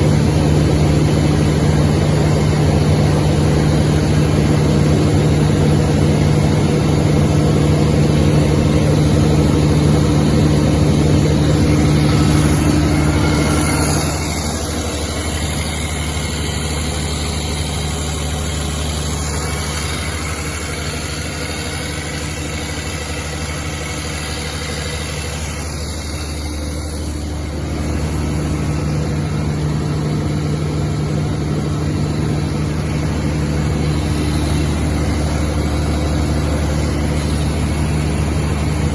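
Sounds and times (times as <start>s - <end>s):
diesel generator droning: 0.0s - 38.9s.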